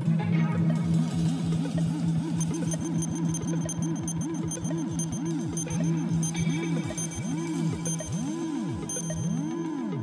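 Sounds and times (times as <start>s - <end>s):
electronic music: 0.0s - 10.0s
swooping electronic notes: 0.6s - 10.0s.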